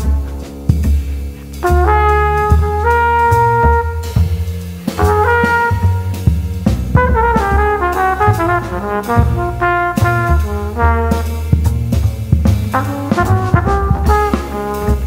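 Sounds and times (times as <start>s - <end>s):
bass: 0.0s - 15.0s
drums with light cymbals: 0.0s - 15.0s
jazz trumpet solo: 0.0s - 15.0s.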